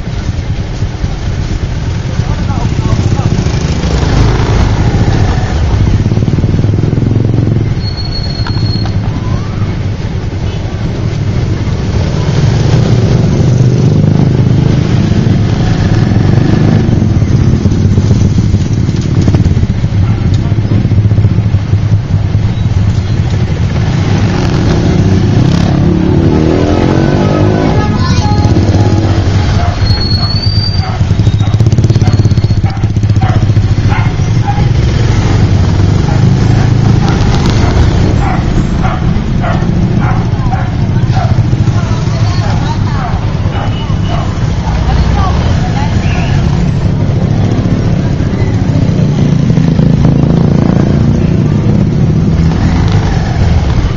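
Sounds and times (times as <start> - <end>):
street traffic: 0.0 - 53.9
motorbike engine running: 1.6 - 9.2, 12.1 - 53.9.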